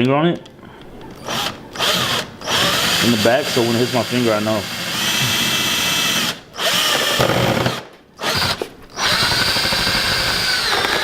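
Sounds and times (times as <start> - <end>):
power drill whining: 0.4 - 11.0.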